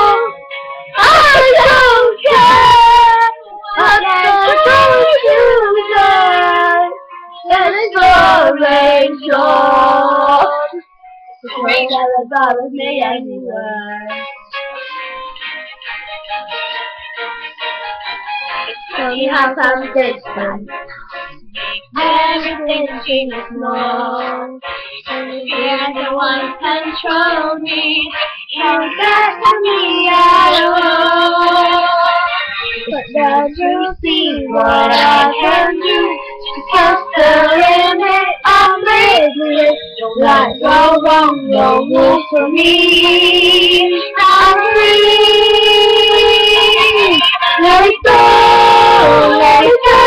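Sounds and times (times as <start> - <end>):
girls singing: 0.0 - 0.3, 0.9 - 10.8, 11.4 - 14.2, 18.9 - 50.0
backing music: 0.0 - 50.0.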